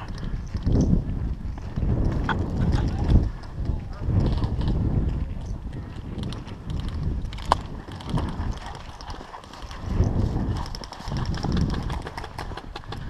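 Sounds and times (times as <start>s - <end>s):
wind gusts on microphone: 0.0s - 13.0s.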